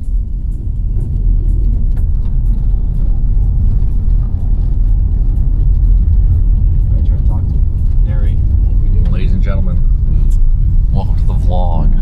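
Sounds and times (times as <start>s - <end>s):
car road rumble on gravel: 0.0s - 12.0s
faint rattles and ticks: 0.0s - 12.0s.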